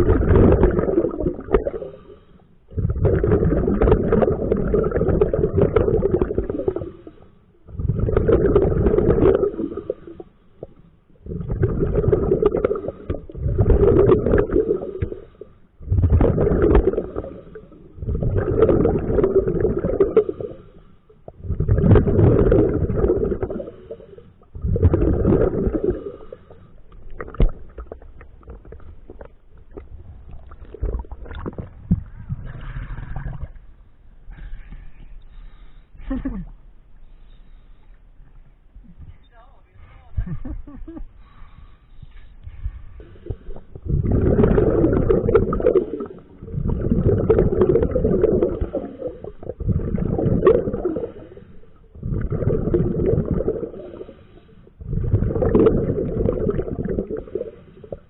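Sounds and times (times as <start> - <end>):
exhaled breath bubbling underwater: 0.0 - 36.6, 40.4 - 58.0.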